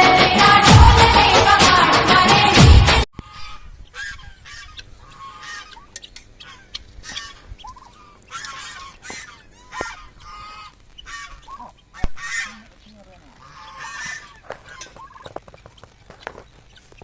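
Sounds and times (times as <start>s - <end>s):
turkeys calling: 3.2s - 17.0s.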